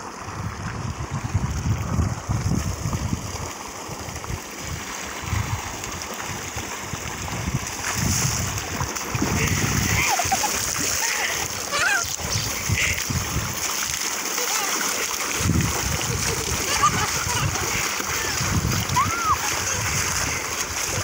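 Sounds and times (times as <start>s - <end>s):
water gushing from pipe: 0.0s - 21.0s
person wading in water: 2.2s - 21.0s.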